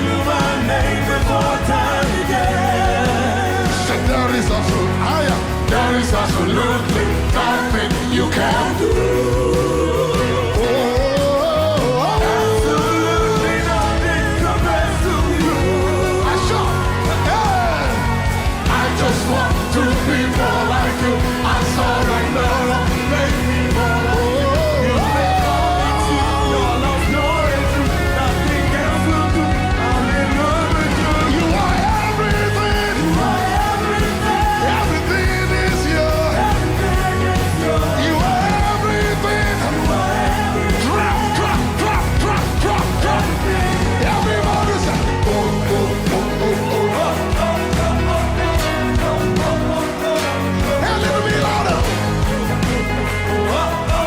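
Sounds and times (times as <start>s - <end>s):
band with steady bass: 0.0s - 54.0s.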